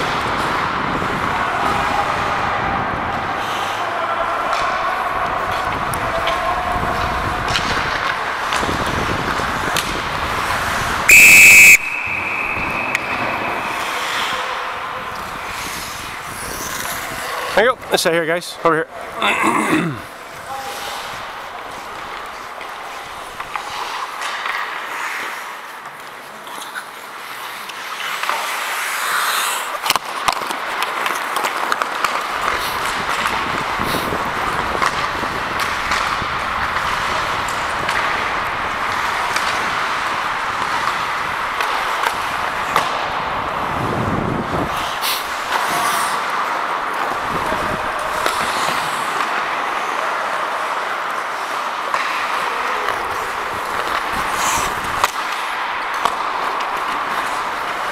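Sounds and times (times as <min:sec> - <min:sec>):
hockey sticks and puck clacking: 0:00.0 - 0:19.2, 0:20.0 - 0:57.9
skate blades scraping ice: 0:03.3 - 0:17.9, 0:20.0 - 0:57.9.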